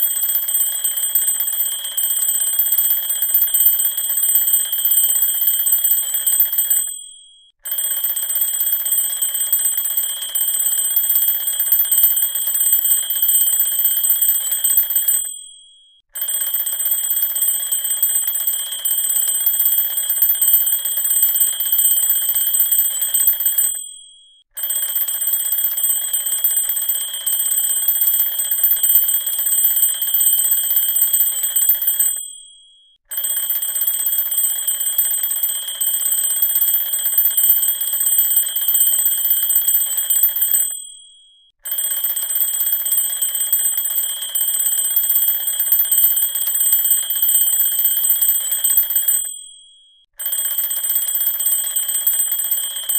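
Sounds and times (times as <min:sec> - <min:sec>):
alarm clock ringing: 0:00.0 - 0:32.6, 0:33.2 - 0:52.9.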